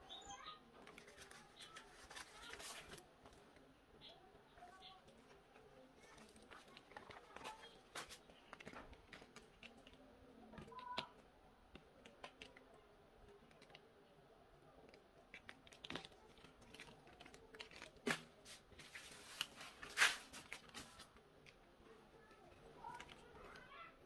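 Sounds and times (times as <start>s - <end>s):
paper peeling and crackling: 0.7s - 3.7s, 4.5s - 13.9s, 14.6s - 24.0s.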